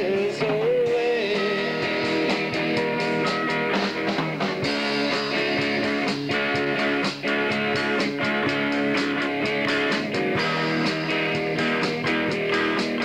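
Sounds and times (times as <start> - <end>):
drum kit steady beat: 0.0 - 13.0
electric guitars ringing: 0.0 - 13.0.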